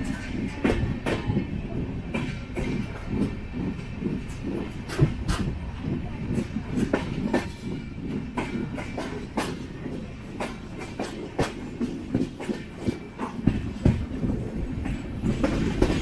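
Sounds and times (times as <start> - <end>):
train rumbling on track: 0.0 - 16.0
wheels clacking over rail joints: 0.0 - 16.0.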